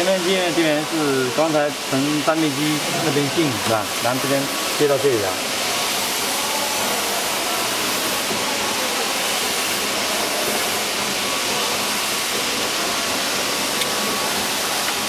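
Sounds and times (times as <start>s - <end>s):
loud hiss of background noise: 0.0s - 15.0s.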